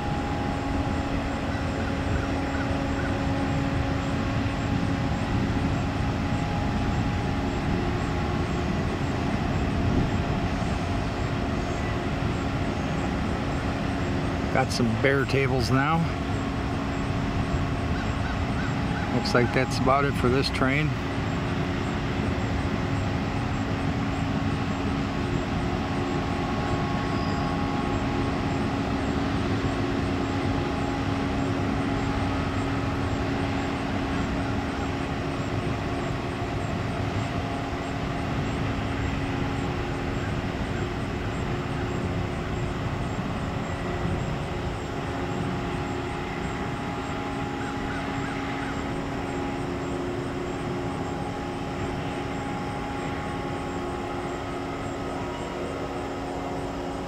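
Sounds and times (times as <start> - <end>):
crossing warning bell ringing: 0.0 - 57.0.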